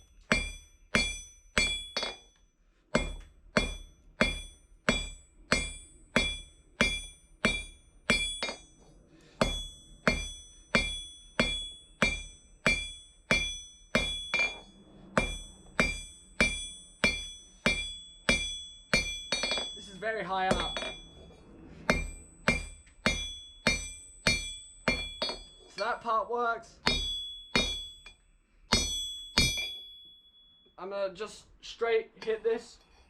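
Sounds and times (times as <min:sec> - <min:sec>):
hammer blows on anvil: 0:00.0 - 0:26.0, 0:26.8 - 0:30.2
high anvil ring: 0:00.0 - 0:26.2, 0:26.8 - 0:30.8.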